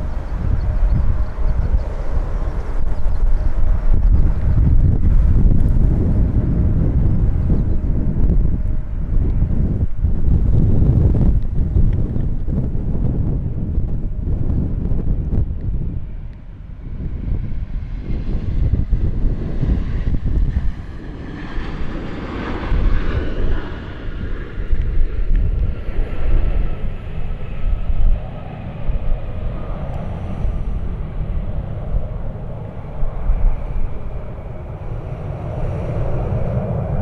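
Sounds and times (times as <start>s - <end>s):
airliner engines whining: 0.0s - 37.0s
wind rumbling on microphone: 0.0s - 37.0s.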